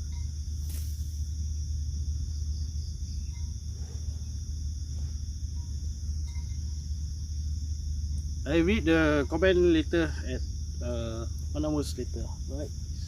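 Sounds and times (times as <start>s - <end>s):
low rumble: 0.0s - 13.0s
night insects chirping: 0.0s - 13.0s.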